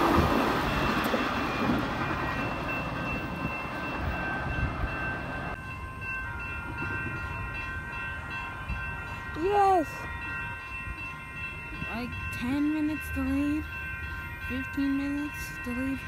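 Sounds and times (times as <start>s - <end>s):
passenger train rail rumble: 0.0s - 16.0s.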